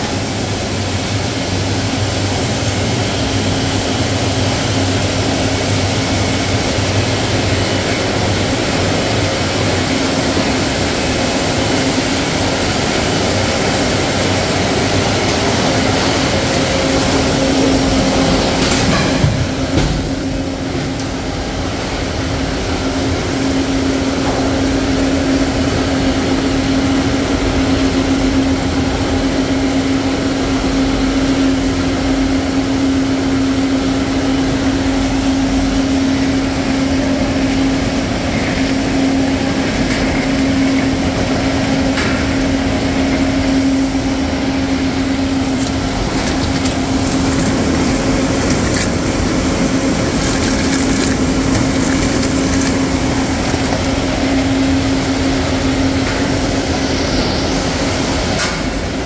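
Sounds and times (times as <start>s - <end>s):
constant machine tone: 0.0s - 59.0s
machinery humming: 0.0s - 59.0s.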